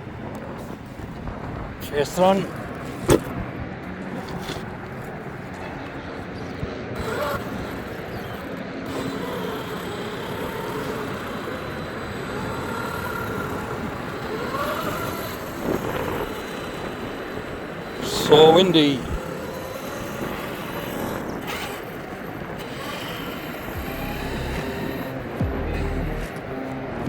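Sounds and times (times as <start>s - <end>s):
electric motor whine: 0.0s - 27.0s
wind on microphone: 0.0s - 27.0s.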